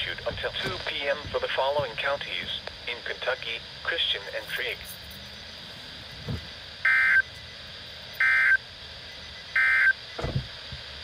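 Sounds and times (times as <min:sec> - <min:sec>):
warbling data tones from radio: 0:00.0 - 0:10.5.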